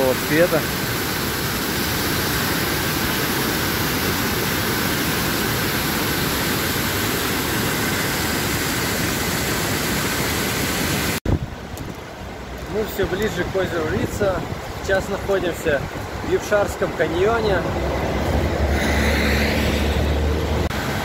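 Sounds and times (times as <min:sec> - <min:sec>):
river rushing over boulders: 0:00.0 - 0:18.7.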